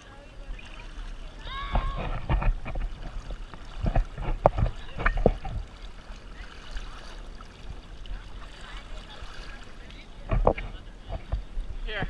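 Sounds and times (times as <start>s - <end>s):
river water splashing on camera: 0.0s - 12.0s.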